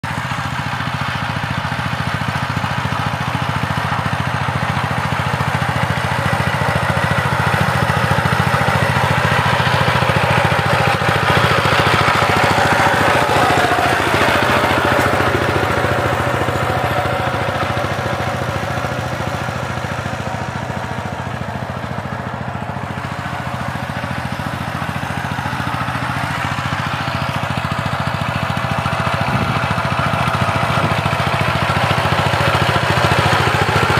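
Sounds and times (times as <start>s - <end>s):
diesel power tiller engine: 0.0s - 33.9s.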